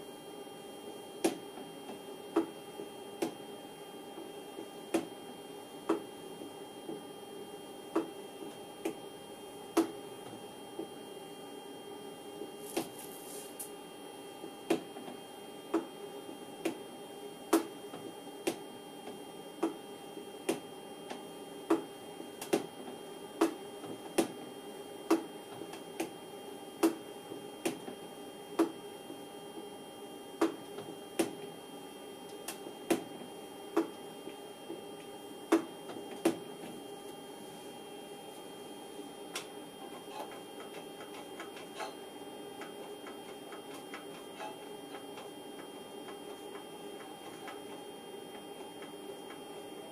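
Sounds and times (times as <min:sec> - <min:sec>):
steady electrical hum: 0:00.0 - 0:49.9.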